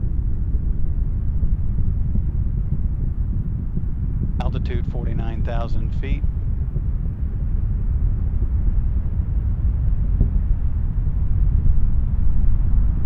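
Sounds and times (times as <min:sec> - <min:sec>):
rocket engines deep rumble: 0:00.0 - 0:13.0.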